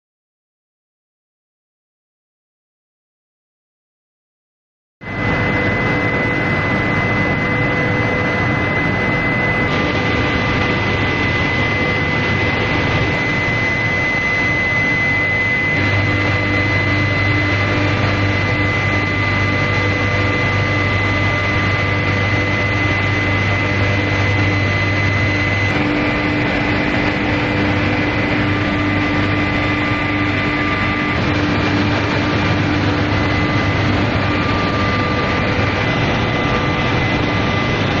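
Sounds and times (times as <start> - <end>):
industrial machinery running: 5.0 - 38.0
machine whine tones: 5.0 - 38.0.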